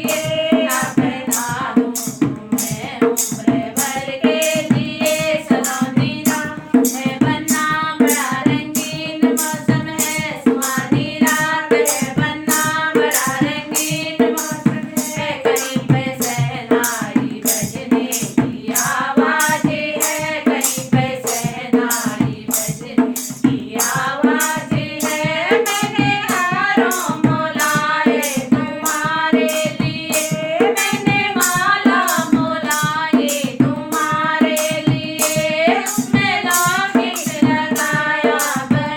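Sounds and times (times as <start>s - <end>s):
jingling percussion: 0.0s - 38.9s
person singing a folk song: 0.0s - 38.9s
steady drum beat: 0.0s - 38.9s.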